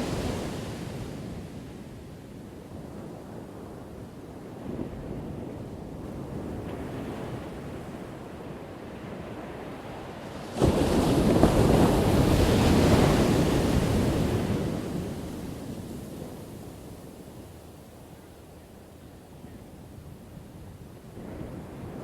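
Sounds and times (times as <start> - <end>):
surf washing on shore: 0.0 - 22.0.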